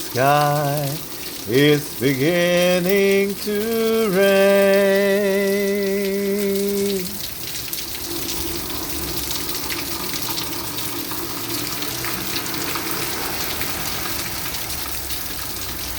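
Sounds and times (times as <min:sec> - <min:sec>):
drops ticking: 0:00.0 - 0:15.9
rain falling: 0:00.0 - 0:15.9.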